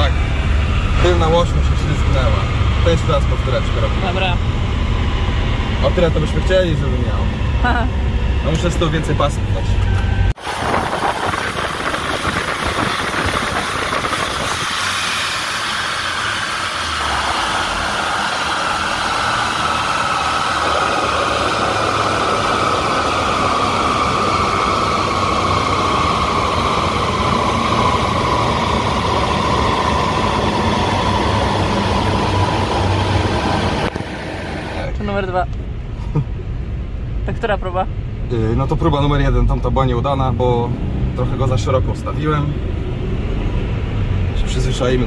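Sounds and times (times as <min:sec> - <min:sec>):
car engine running: 0:00.0 - 0:43.1
steady whine: 0:00.0 - 0:45.0.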